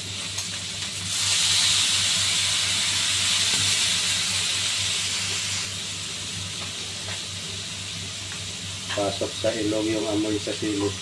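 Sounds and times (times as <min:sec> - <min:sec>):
vinegar hissing in hot pan: 0:00.0 - 0:11.0.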